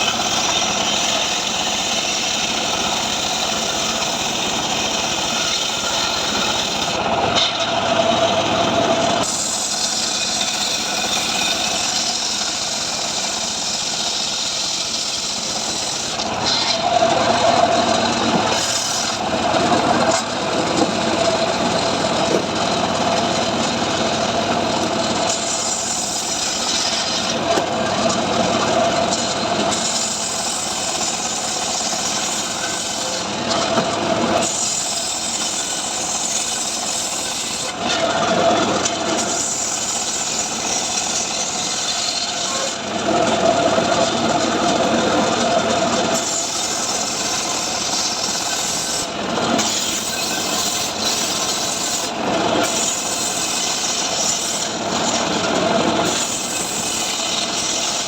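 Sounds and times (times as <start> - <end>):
engine-driven saw cutting wood: 0.0 - 58.0.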